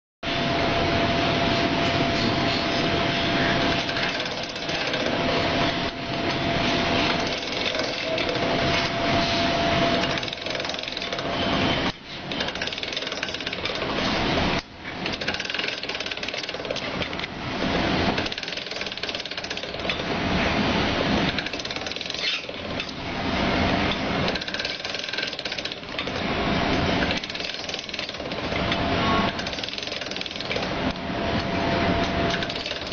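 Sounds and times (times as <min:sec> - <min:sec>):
machine rattling clatter: 0:03.5 - 0:32.9.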